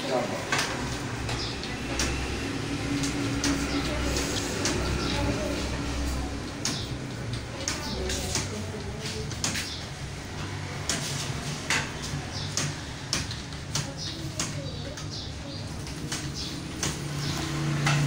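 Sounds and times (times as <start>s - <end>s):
keyboard keys clacking: 0.0s - 18.0s.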